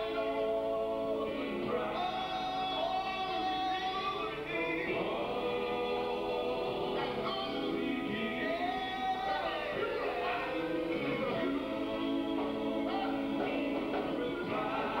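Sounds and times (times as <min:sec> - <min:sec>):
male vocal group singing in harmony: 0:00.0 - 0:15.0.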